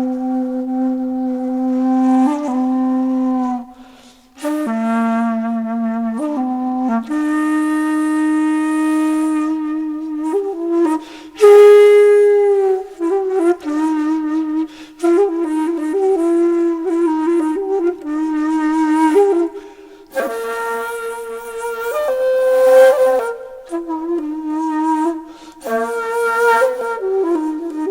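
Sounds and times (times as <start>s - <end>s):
solo flute playing slow melody: 0.0s - 27.9s.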